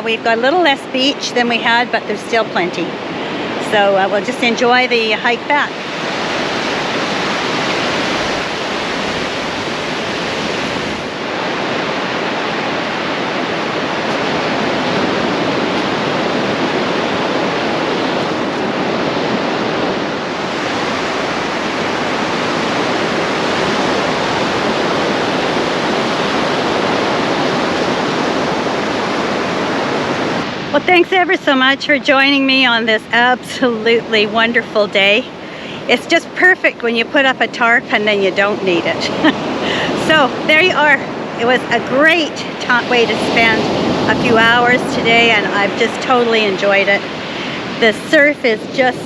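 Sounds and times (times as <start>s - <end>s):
ocean surf breaking on beach: 0.0s - 49.0s.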